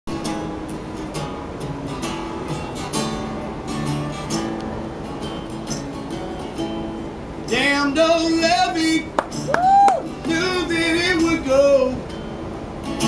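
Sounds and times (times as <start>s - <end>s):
acoustic guitar strumming: 0.1s - 13.0s.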